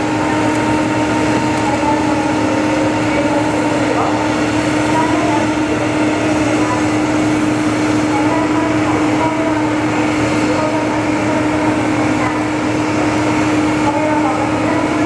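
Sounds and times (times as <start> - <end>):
jet turbine running: 0.0 - 15.0.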